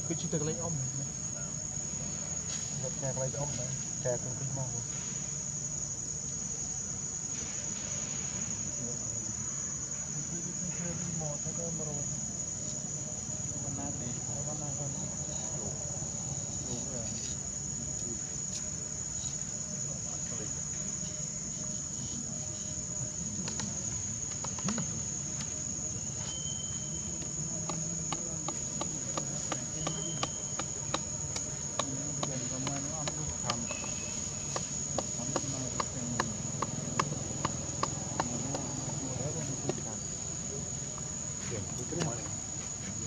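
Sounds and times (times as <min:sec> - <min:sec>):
insects whining: 0:00.0 - 0:43.0.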